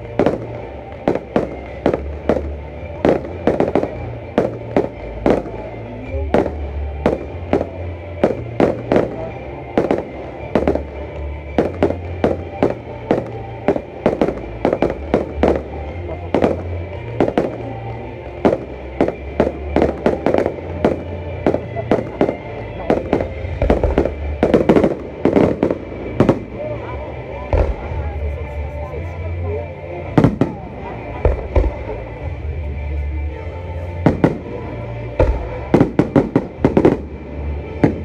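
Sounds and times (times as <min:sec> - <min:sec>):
fireworks bangs: 0:00.0 - 0:28.9, 0:30.1 - 0:32.6, 0:33.9 - 0:38.0
music playing: 0:00.0 - 0:38.0.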